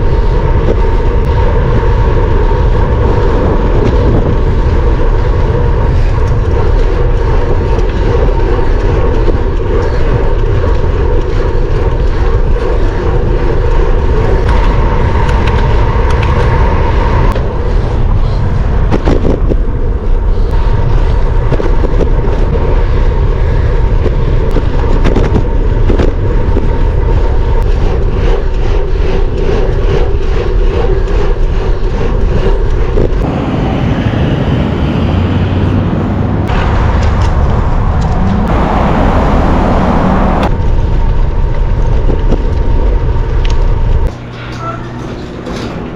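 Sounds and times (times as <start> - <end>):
wind buffeting microphone: 0.0 - 44.3
road noise: 0.0 - 45.9.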